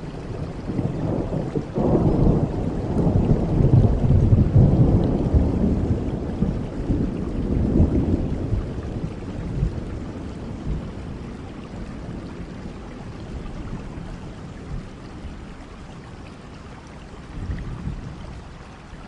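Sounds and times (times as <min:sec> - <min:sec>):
thunder rumbling: 0:00.0 - 0:15.7
steady rain: 0:00.0 - 0:19.0.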